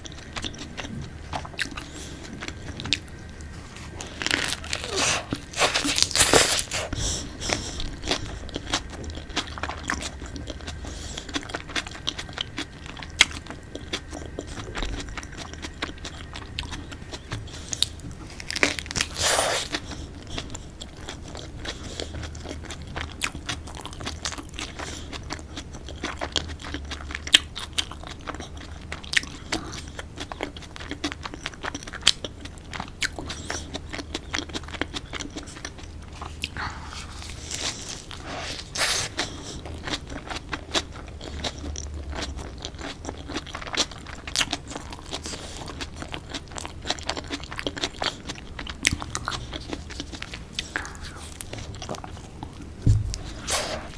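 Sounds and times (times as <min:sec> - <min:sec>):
person chewing a wrap close-up: 0:00.0 - 0:53.9.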